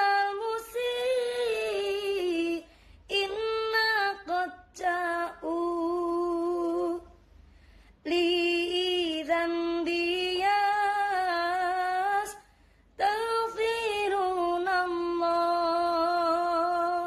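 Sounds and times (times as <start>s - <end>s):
woman singing unaccompanied: 0.0s - 7.2s, 8.0s - 12.4s, 13.0s - 17.0s.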